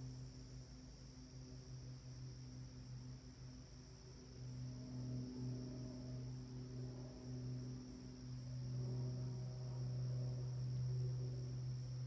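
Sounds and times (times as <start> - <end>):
distant propeller plane drone: 0.0 - 12.0
insect trill: 0.0 - 12.0.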